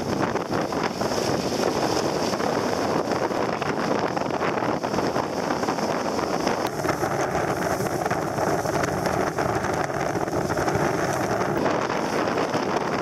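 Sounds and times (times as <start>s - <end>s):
water rushing along a hull: 0.0s - 13.0s
wind buffeting the microphone: 0.0s - 13.0s.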